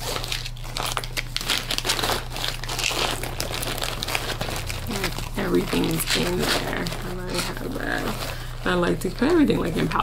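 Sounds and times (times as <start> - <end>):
plastic bags crinkling in a pouch: 0.0 - 10.0
steady low hum: 0.0 - 10.0.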